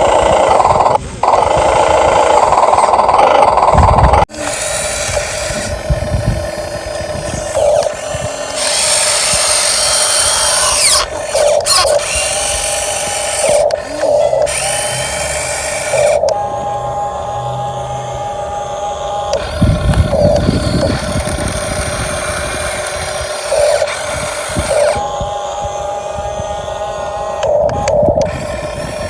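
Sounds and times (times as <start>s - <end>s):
small electric motors whining: 0.0s - 29.0s.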